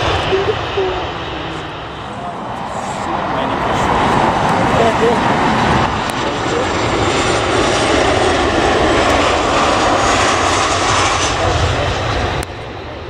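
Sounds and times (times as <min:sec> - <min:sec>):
airliner engines rumbling: 0:00.0 - 0:13.0
high engine whine: 0:00.0 - 0:13.0.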